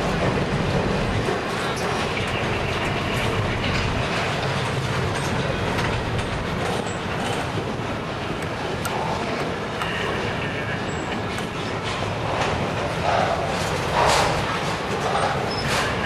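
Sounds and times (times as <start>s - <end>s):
freight train rumbling past: 0.0s - 16.0s
wheels clacking over rail joints: 0.0s - 16.0s.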